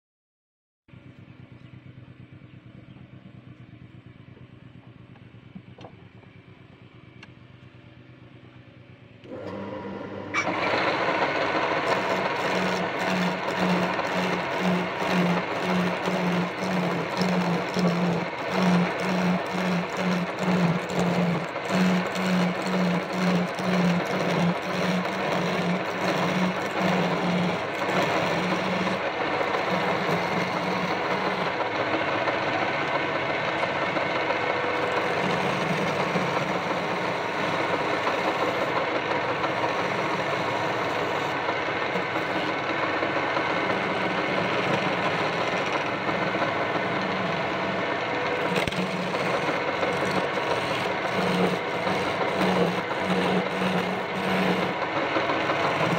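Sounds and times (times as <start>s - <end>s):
wood lathe motor hum: 9.2s - 55.9s
chisel scraping spinning wood: 9.3s - 55.9s.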